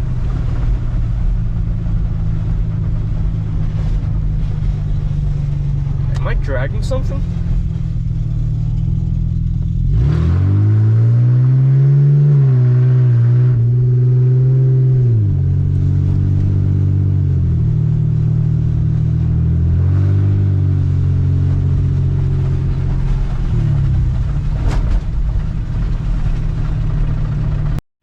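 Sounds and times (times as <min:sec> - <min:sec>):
car engine revving: 0:00.0 - 0:27.8.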